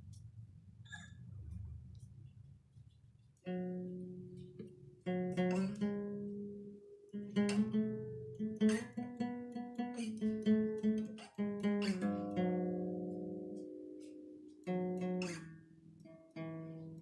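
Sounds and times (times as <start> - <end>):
acoustic guitar playing: 3.4 - 17.0.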